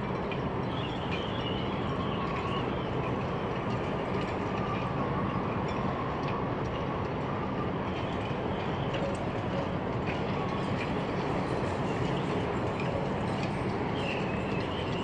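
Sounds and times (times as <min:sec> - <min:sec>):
train rumbling over steel bridge: 0:00.0 - 0:15.0.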